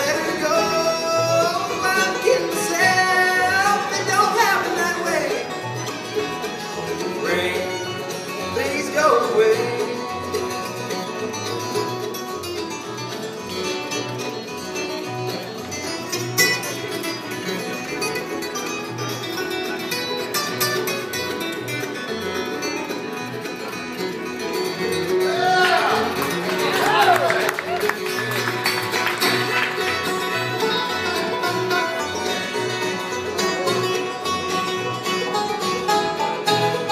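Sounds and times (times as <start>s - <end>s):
bluegrass band playing: 0.0s - 36.9s
upright bass: 0.0s - 36.9s.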